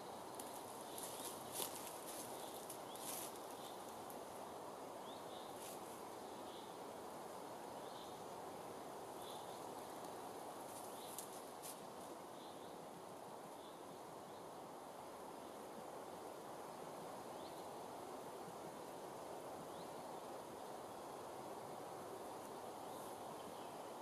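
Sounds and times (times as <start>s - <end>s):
soft steady hiss: 0.0s - 24.0s.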